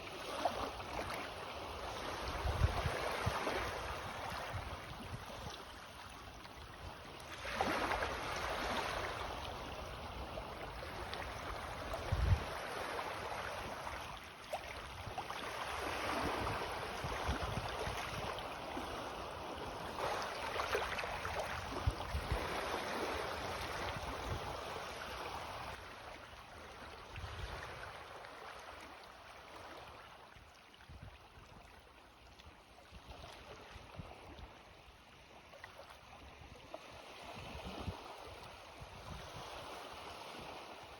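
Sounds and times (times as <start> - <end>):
small waves washing on shore: 0.0 - 40.9.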